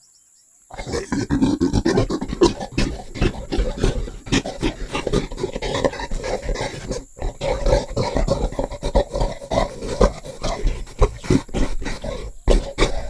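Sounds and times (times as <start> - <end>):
gorilla making rough sounds: 0.7 - 13.0.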